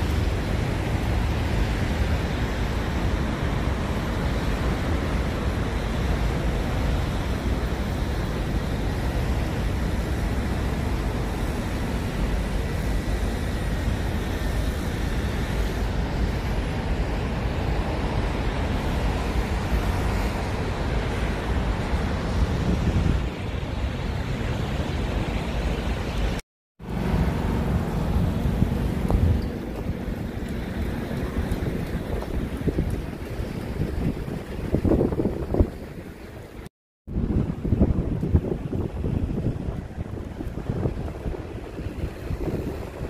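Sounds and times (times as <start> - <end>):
rushing outdoor rumble: 0.0 - 43.0.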